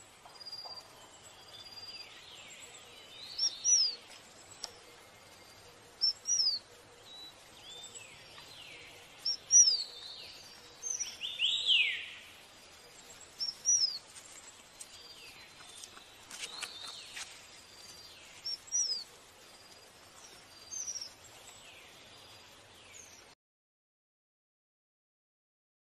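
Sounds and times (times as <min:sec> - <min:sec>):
faint background hiss: 0:00.0 - 0:23.4
songbird chirping: 0:00.0 - 0:23.4.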